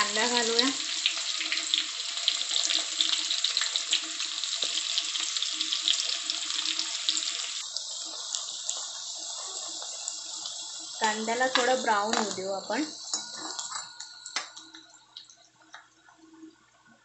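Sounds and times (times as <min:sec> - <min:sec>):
onion sizzling in hot oil: 0:00.0 - 0:15.1.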